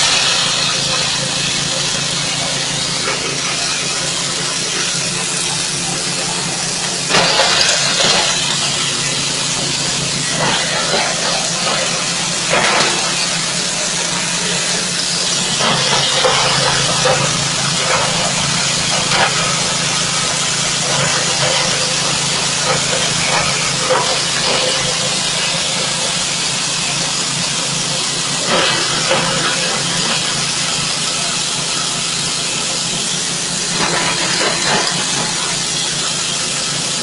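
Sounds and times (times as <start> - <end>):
chopper grinder engine running: 0.0 - 37.0.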